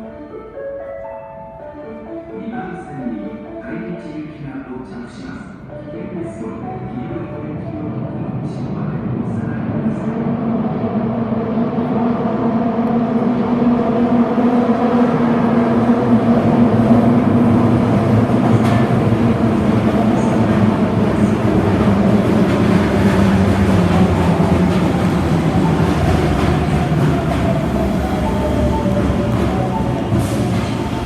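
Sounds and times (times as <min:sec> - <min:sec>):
subway train hum and rumble: 0:00.0 - 0:31.0.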